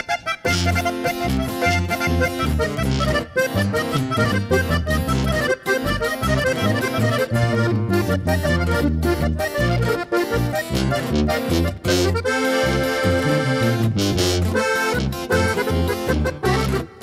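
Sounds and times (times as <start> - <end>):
accordion melody: 0.0 - 17.0
tuba bass notes: 0.0 - 17.0
strummed acoustic guitar: 0.1 - 17.0.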